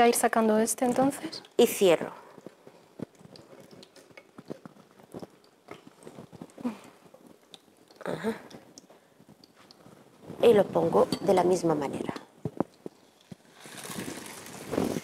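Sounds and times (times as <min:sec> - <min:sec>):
light crackles of food: 0:00.7 - 0:15.0.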